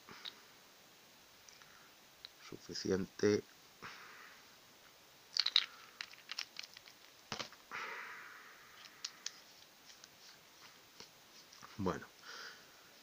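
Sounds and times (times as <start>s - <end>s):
soft hiss: 0.0s - 13.0s.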